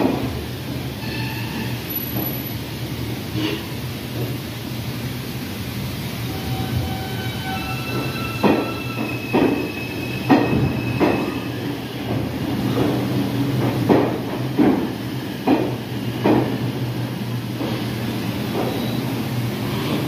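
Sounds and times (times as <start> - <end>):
train low hum: 0.0 - 20.0.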